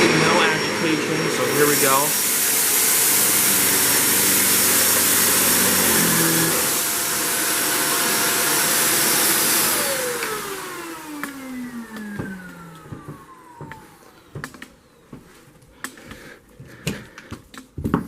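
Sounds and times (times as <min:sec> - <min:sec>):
vacuum cleaner motor whine: 0:00.0 - 0:15.3.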